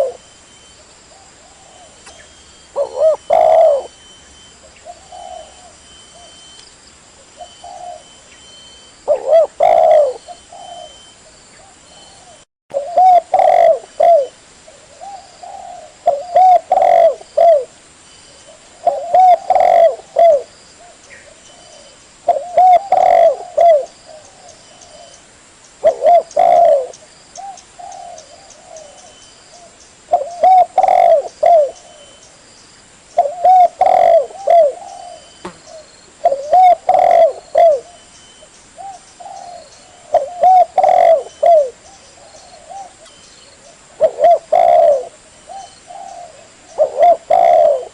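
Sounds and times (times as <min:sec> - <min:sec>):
dove cooing: 0:00.0 - 0:00.3, 0:01.1 - 0:04.1, 0:04.8 - 0:06.5, 0:07.3 - 0:08.3, 0:09.0 - 0:17.7, 0:18.4 - 0:25.2, 0:25.8 - 0:32.2, 0:33.2 - 0:47.9.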